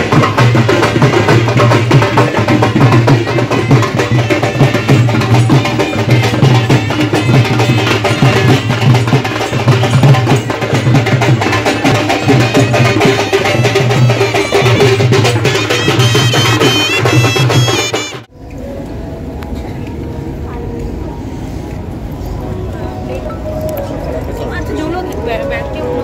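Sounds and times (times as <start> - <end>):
folk drums and percussion: 0.0 - 26.0.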